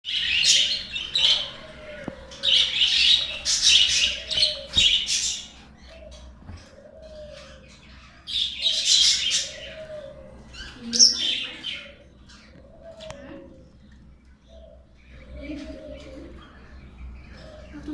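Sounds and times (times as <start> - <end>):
budgerigars chattering and chirping: 0.1 - 17.9.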